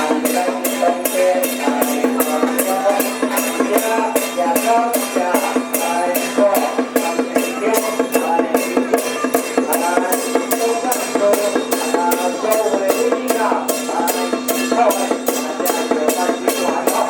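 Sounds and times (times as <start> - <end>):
percussion strikes: 0.0 - 17.0.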